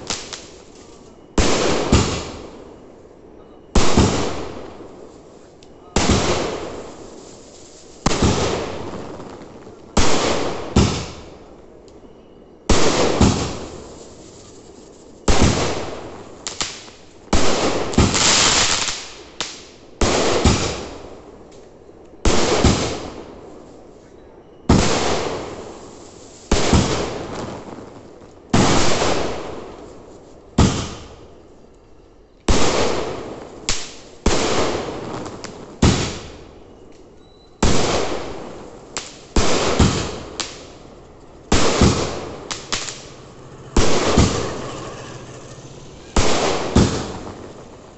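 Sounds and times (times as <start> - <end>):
fireworks bursting with crackle: 0.0 - 2.8, 3.8 - 11.6, 12.7 - 21.6, 22.2 - 24.0, 24.7 - 31.4, 32.4 - 47.9.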